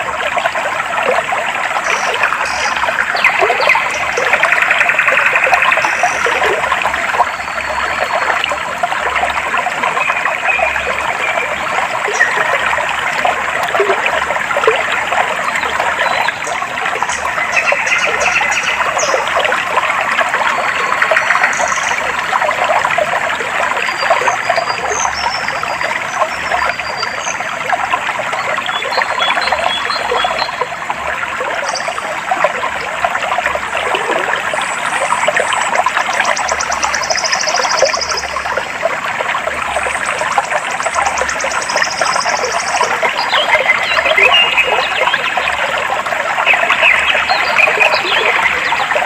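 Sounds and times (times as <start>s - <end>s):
stream babbling over stones: 0.0s - 49.0s.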